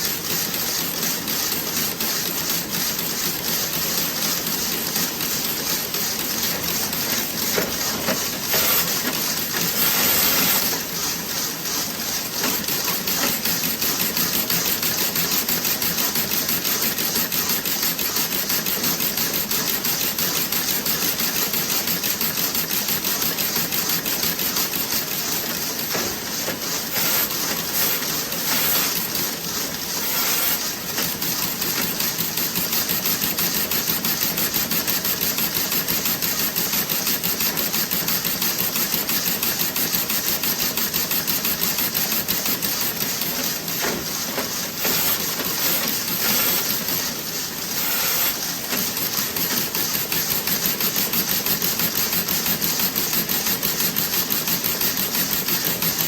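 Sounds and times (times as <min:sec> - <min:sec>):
knitting machine clatter: 0:00.0 - 0:56.0.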